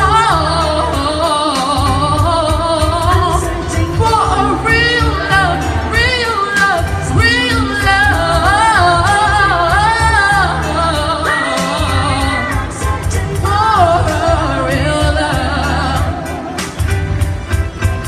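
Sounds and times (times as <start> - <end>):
woman singing pop ballad: 0.0 - 17.2
backing track bass and drums: 0.0 - 18.0.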